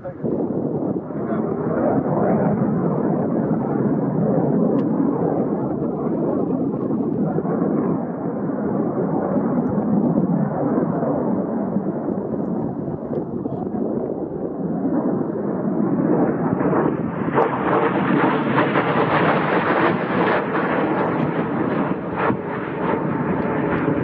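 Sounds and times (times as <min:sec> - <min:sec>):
jet engine noise: 0:00.0 - 0:24.0.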